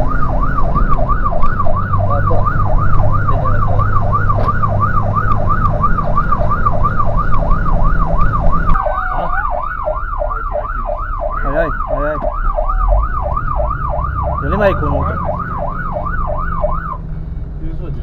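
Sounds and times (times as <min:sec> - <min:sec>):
fire truck siren yelping: 0:00.0 - 0:17.1
diesel engine rumble: 0:00.0 - 0:18.0.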